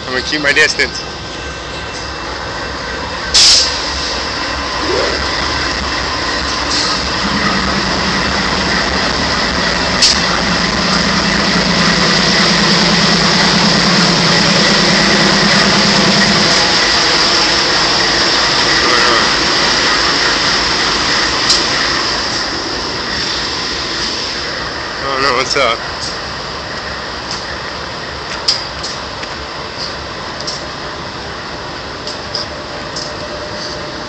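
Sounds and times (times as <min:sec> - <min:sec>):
large engine idling: 0:00.0 - 0:34.0.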